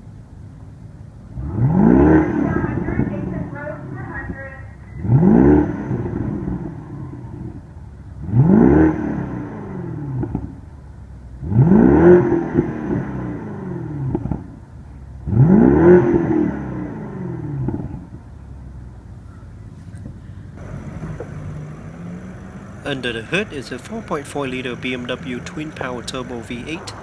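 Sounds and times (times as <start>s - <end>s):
car engine revving: 1.3s - 27.0s.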